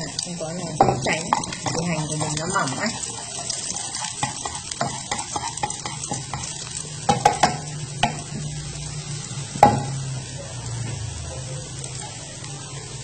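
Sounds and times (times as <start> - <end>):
shallots sizzling in oil: 0.0 - 13.0.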